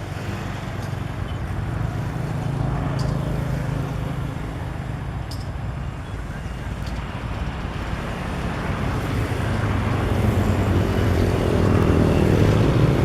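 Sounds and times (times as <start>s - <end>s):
bulldozer diesel engine droning: 0.0s - 13.0s.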